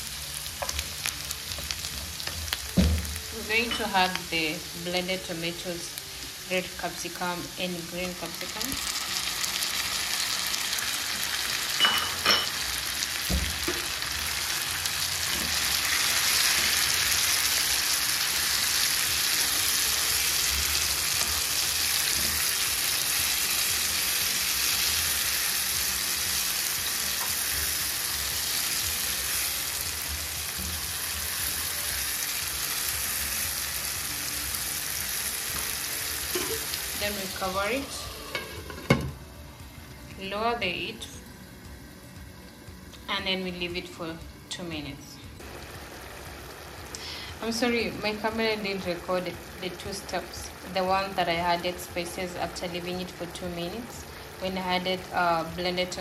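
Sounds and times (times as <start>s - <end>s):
meat and onions sizzling in a pan: 0.0s - 42.9s, 45.4s - 56.0s.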